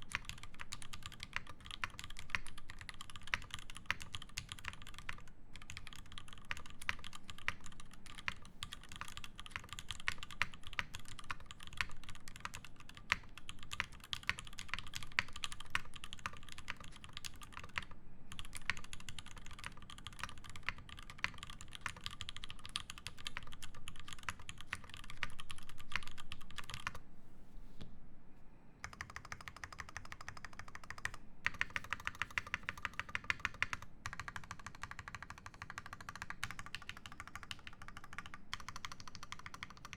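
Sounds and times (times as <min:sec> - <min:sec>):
fast typing on mechanical keyboard: 0:00.0 - 0:27.0, 0:28.8 - 0:39.9.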